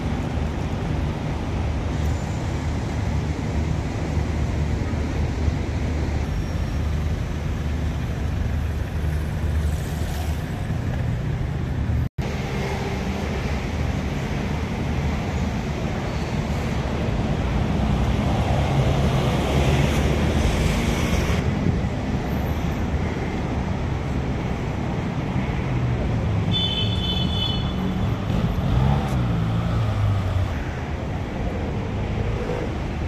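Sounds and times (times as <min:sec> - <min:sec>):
city traffic rumble: 0:00.0 - 0:33.0.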